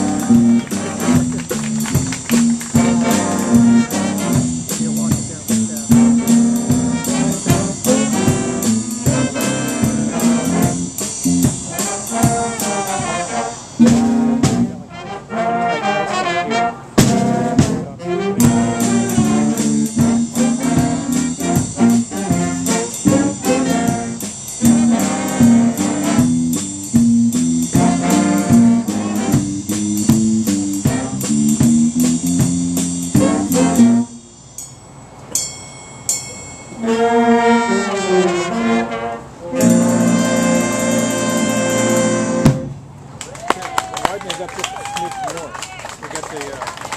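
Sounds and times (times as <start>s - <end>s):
drum cymbals keeping beat: 0.0s - 14.9s, 17.0s - 36.9s, 39.6s - 42.8s
big band jazz playing: 0.0s - 34.8s, 35.4s - 43.0s.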